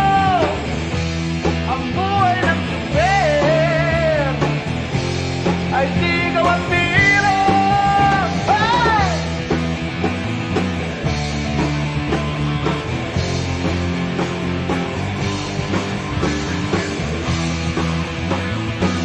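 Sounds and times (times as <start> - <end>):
instrumental rock band: 0.0 - 19.0.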